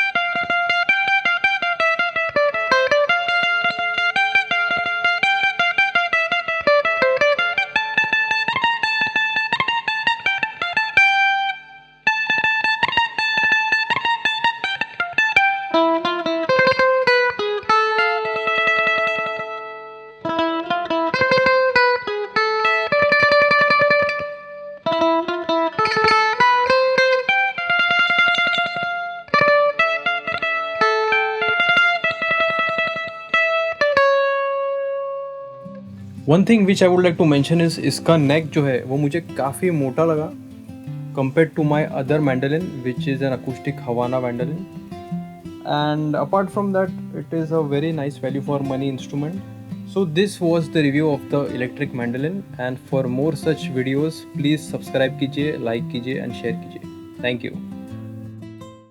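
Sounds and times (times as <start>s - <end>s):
electric mandolin tremolo melody: 0.0s - 58.5s.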